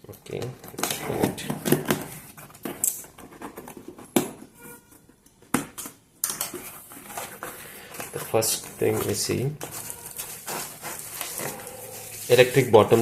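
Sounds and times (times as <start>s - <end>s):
cardboard packaging rustling: 0.3s - 5.1s, 6.5s - 13.0s.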